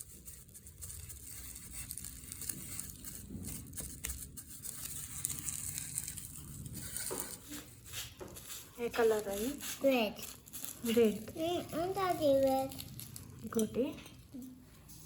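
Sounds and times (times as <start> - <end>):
bubble wrap crinkling: 0.0 - 13.6.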